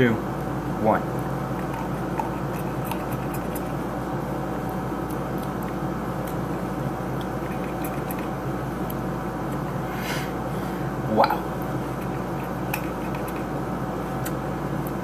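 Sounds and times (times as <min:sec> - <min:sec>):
room hum with faint tone: 0:00.0 - 0:15.0.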